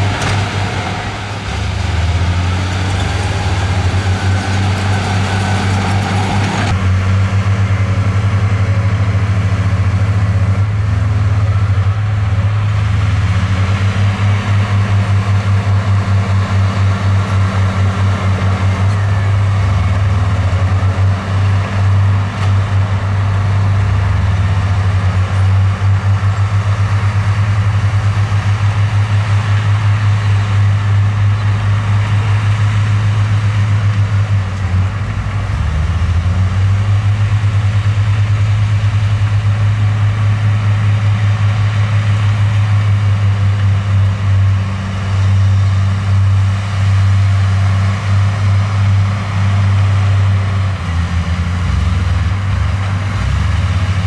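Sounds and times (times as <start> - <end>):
heavy diesel engine throbbing: 0.0 - 54.0.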